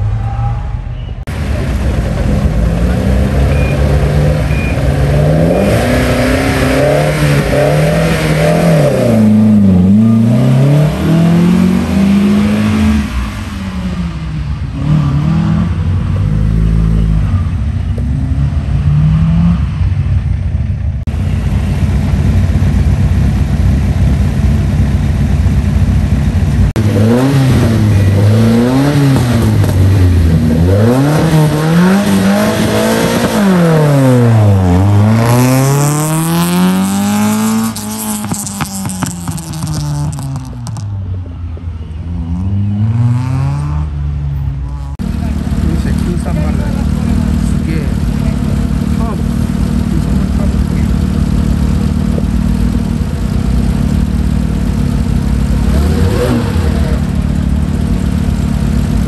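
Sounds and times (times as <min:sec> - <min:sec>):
rally car engine revving: 0:00.0 - 0:20.4, 0:21.0 - 0:40.9, 0:42.1 - 0:59.0
distant steady engine: 0:00.0 - 0:59.0.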